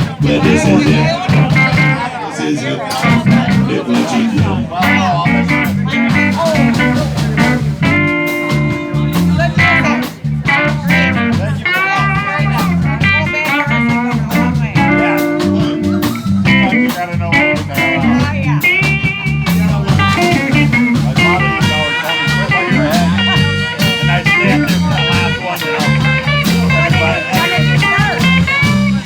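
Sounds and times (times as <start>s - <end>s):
lead guitar solo with bent notes: 0.0s - 2.1s, 3.0s - 29.0s
walking bass line: 0.0s - 2.1s, 2.9s - 29.0s
drums: 0.0s - 29.0s.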